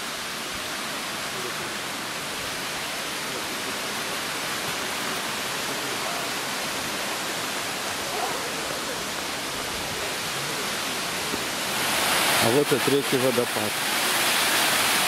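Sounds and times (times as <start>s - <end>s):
mountain stream and waterfalls rushing: 0.0s - 15.0s.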